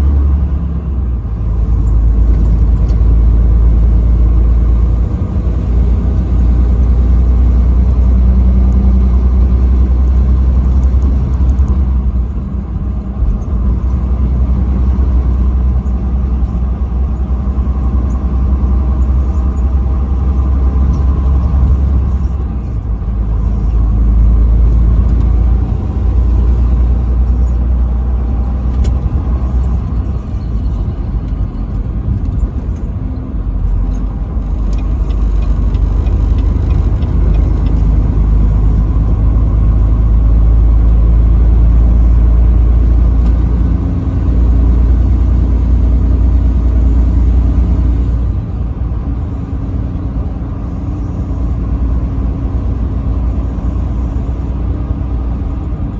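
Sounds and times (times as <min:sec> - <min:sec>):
vehicle engine and road rumble: 0:00.0 - 0:55.9.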